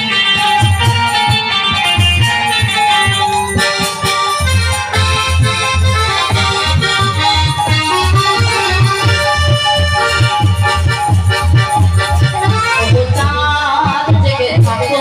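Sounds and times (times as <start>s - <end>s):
harmonium melody: 0.0s - 15.0s
drum beat: 0.1s - 13.1s.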